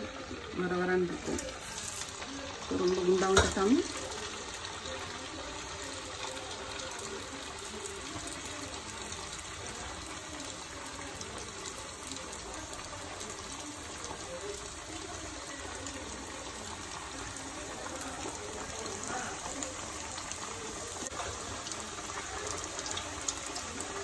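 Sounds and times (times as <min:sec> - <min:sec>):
hot oil sizzling and crackling: 0:00.0 - 0:24.0.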